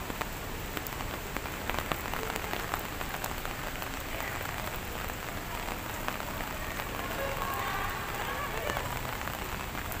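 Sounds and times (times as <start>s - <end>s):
rain on pavement and foliage: 0.0s - 10.0s
sharp taps of raindrops: 0.0s - 10.0s.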